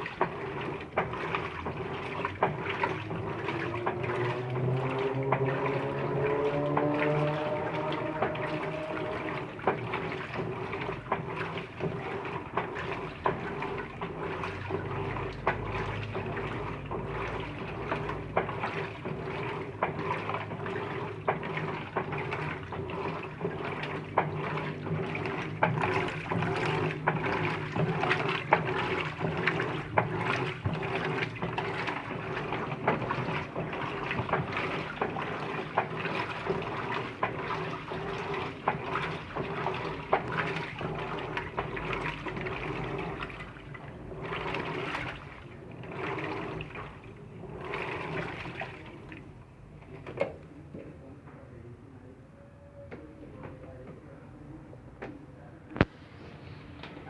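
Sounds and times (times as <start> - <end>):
water sloshing and splashing: 0.0 - 50.9, 55.7 - 57.0
washing machine motor hum: 0.0 - 51.2, 52.9 - 57.0.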